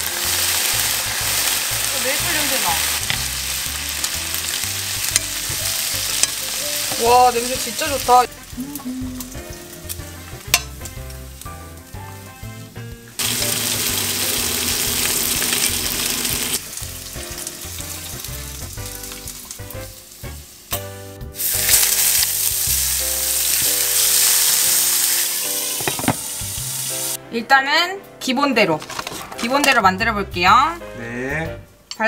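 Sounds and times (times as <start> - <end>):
bacon sizzling in a frying pan: 0.0 - 27.2
background music: 0.0 - 32.0.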